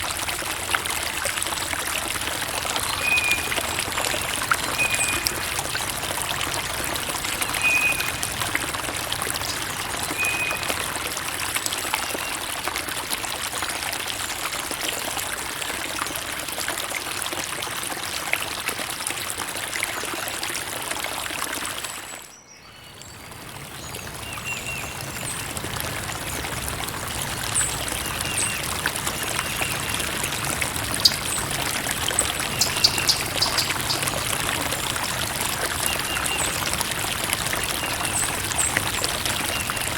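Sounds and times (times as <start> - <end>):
creek water trickling: 0.0 - 39.9.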